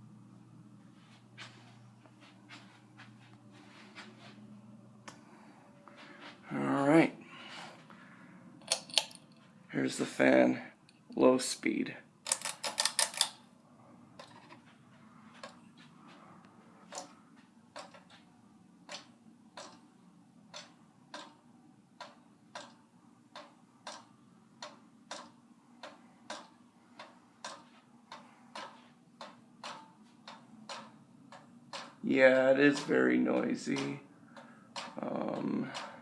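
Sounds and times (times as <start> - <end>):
ceiling fan ticking: 0.0 - 36.0
faint motor hum: 0.0 - 36.0.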